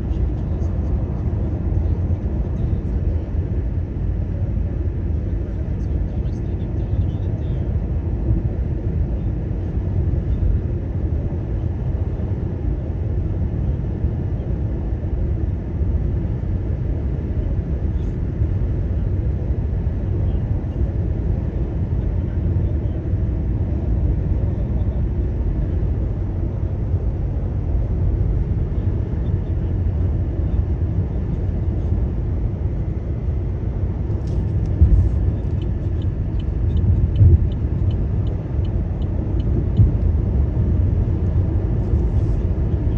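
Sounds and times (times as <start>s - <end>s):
car engine and tyres rumbling: 0.0s - 42.9s.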